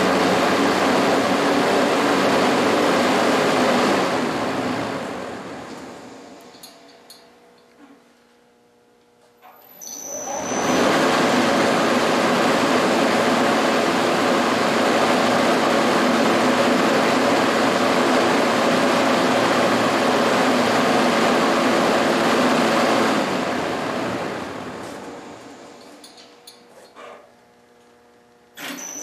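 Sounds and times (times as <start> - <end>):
fan rushing air: 0.0 - 7.0, 10.0 - 29.0.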